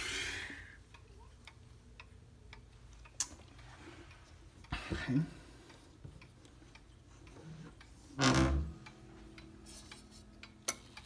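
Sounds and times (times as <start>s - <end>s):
pendulum clock ticking: 0.3s - 11.0s.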